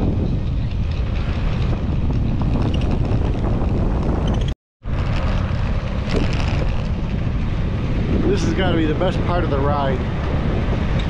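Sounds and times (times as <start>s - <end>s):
bicycle tyre road noise: 0.0s - 11.0s
wind on microphone: 0.0s - 11.0s.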